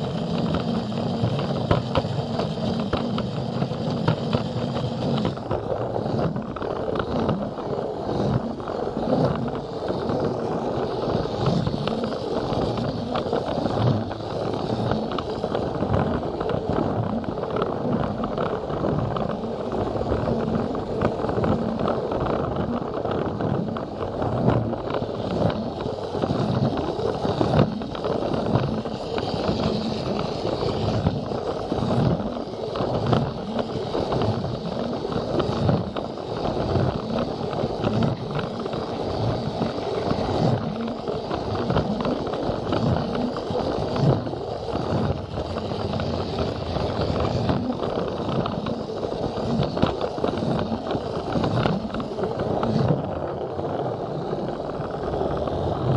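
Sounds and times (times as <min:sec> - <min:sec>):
toy train motor and wheels rattling: 0:00.0 - 0:55.9.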